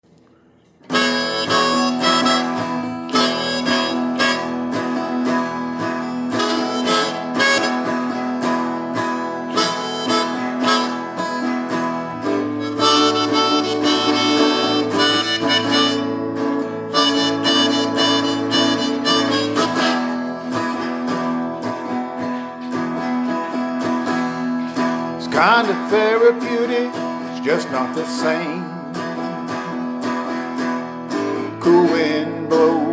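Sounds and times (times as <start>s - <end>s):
guitar accompaniment: 0.1s - 32.9s
blues harmonica melody: 0.8s - 32.9s.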